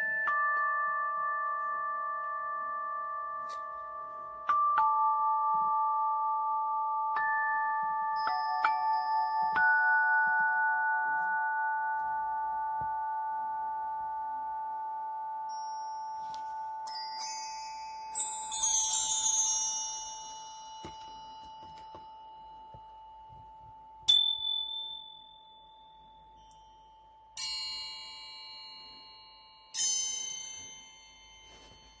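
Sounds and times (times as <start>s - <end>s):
high struck chimes: 0.0s - 32.0s.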